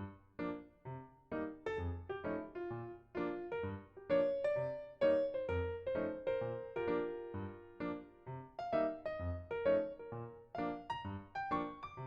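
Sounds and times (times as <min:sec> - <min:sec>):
bouncy keyboard melody: 0:00.0 - 0:12.0.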